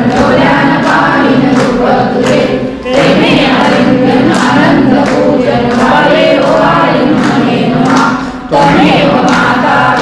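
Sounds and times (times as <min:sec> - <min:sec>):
group singing in unison: 0:00.0 - 0:10.0
steady beat of sharp strokes: 0:00.0 - 0:10.0.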